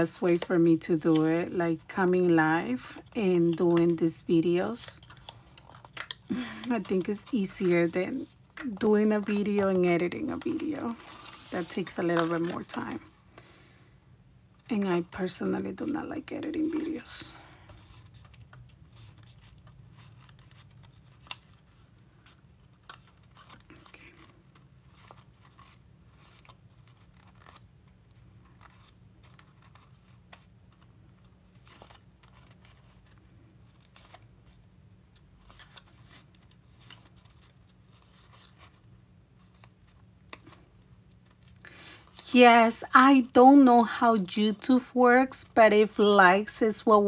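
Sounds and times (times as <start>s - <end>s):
paper being folded: 0.0s - 13.2s, 14.7s - 42.8s.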